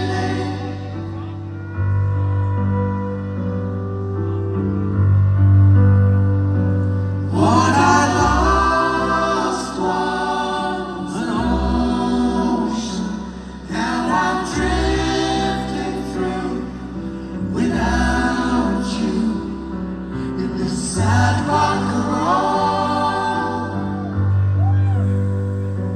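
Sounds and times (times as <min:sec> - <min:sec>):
voices singing choral harmonies: 0:00.0 - 0:03.0, 0:07.0 - 0:25.9.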